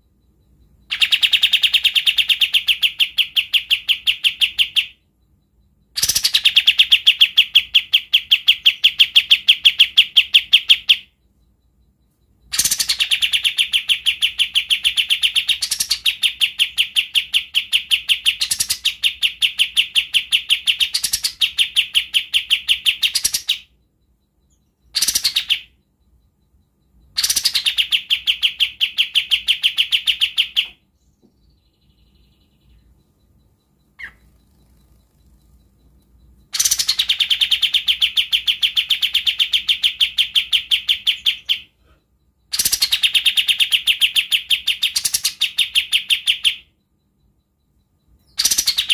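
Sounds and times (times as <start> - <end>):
songbird rattling trill: 0.0 - 41.7, 42.3 - 48.9.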